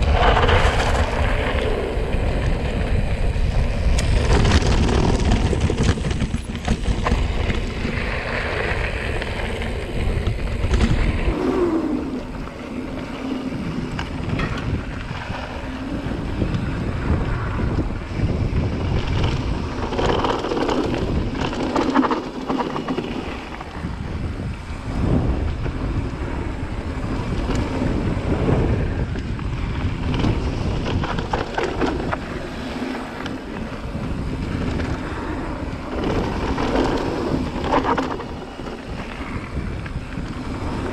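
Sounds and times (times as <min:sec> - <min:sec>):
bike rattling and knocking: 0:00.0 - 0:11.2, 0:12.7 - 0:40.9
tyres rolling over dirt: 0:00.0 - 0:40.9
wind buffeting microphone: 0:00.0 - 0:40.9.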